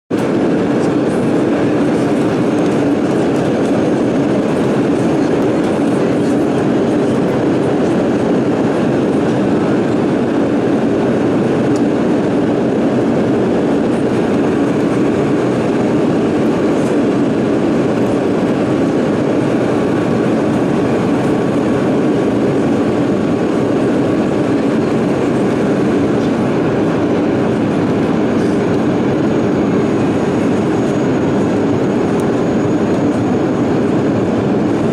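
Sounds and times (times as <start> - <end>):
jet engines at reduced thrust: 0.1 - 34.9.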